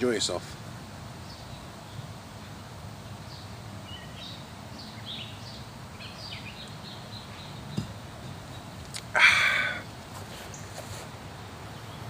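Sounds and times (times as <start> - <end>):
small birds chirping: 1.1 - 12.0.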